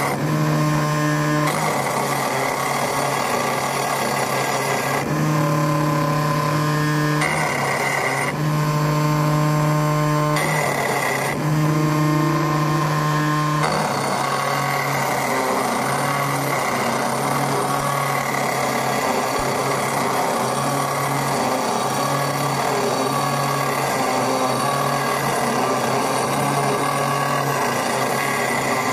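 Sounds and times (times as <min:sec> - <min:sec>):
engraving machine grinding stone: 0:00.0 - 0:28.9.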